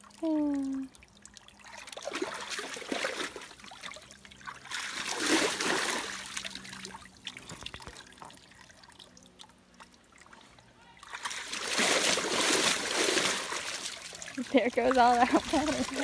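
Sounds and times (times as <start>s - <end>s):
water splashing in a tub: 0.0s - 16.0s.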